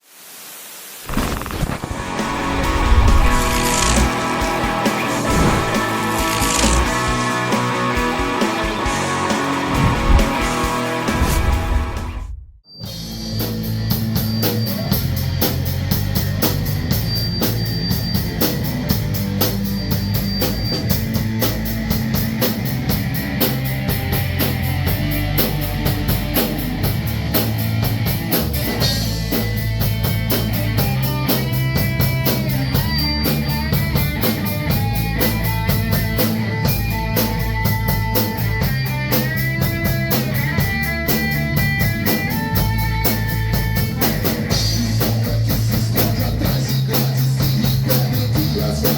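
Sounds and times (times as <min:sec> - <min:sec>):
fast drum beat: 0:01.1 - 0:11.4, 0:13.5 - 0:48.9
rock band playing: 0:01.8 - 0:12.2, 0:12.8 - 0:48.9.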